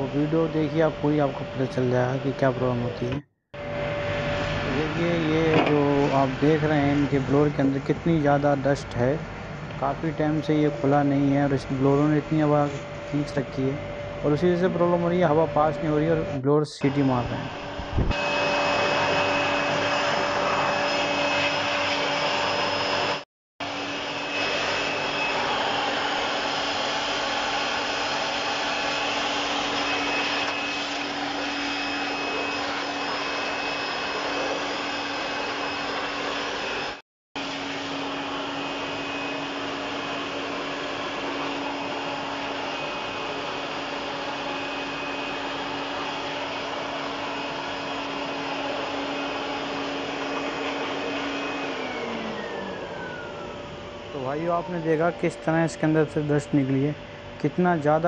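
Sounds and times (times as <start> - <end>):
electric air blower running: 0.0 - 2.8, 3.6 - 58.0.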